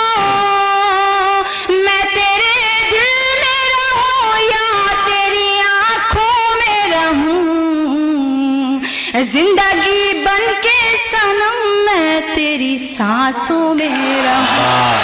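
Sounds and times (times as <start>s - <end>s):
woman singing into a microphone: 0.0s - 14.9s.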